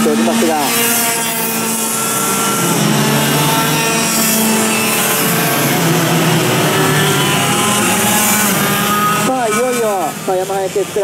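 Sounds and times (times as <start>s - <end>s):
kart engines buzzing: 0.0s - 11.0s.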